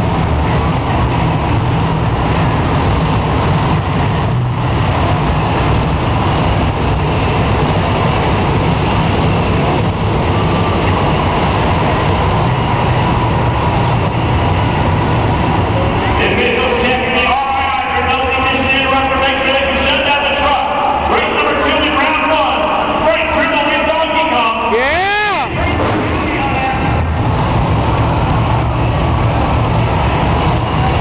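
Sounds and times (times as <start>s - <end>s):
truck engine rumbling: 0.0s - 31.0s.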